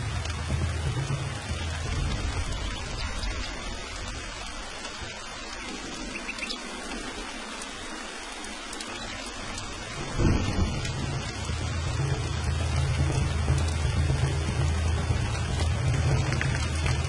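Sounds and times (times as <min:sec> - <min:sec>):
loud thunderclap: 0:00.0 - 0:07.2, 0:09.2 - 0:17.0
heavy rain: 0:00.0 - 0:17.0
low thunder rumble: 0:00.0 - 0:17.0.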